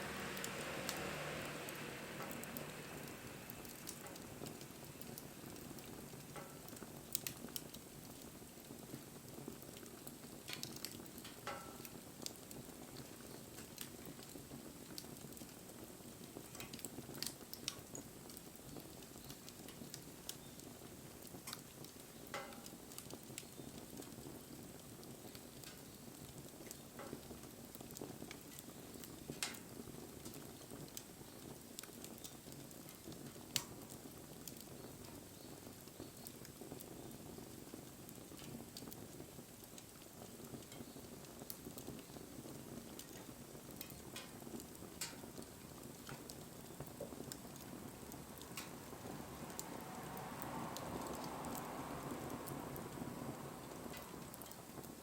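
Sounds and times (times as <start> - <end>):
fire crackles and pops: 0.0 - 55.0
wood fire hissing: 0.0 - 55.0.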